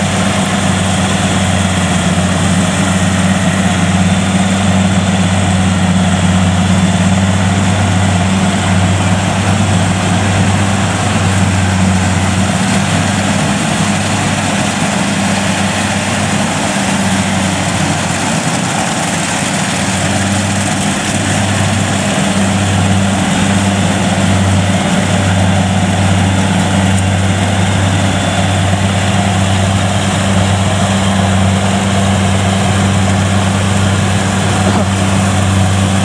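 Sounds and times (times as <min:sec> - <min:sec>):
combine harvester engine drone: 0:00.0 - 0:36.0
harvester machinery whirring: 0:00.0 - 0:36.0.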